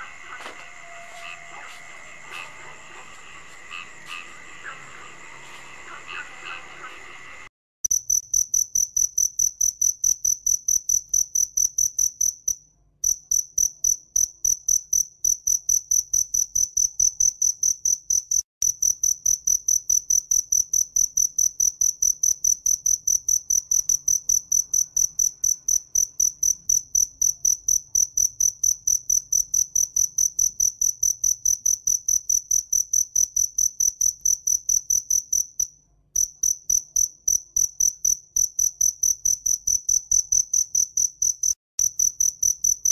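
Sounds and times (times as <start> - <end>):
cricket chirping: 7.8 - 42.9.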